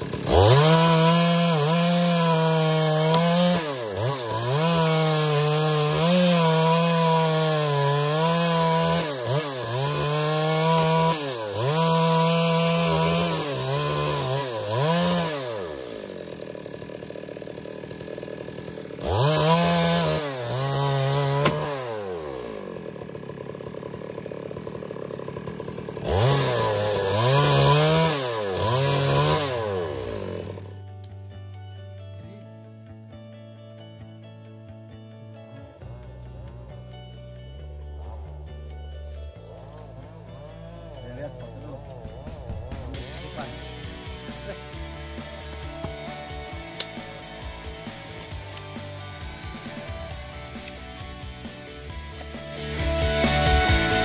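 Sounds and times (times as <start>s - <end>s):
chainsaw cutting through log: 0.0s - 31.5s, 37.5s - 54.0s.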